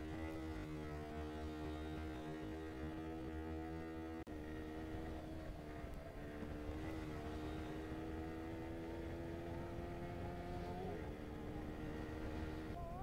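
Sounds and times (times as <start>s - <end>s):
motorcycle engine running: 0.0s - 13.0s
wind and road rumble: 0.0s - 13.0s.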